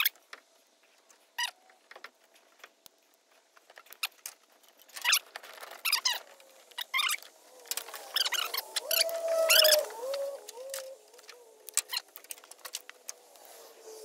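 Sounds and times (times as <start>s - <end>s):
hand tools and wires clicking: 0.0s - 13.5s.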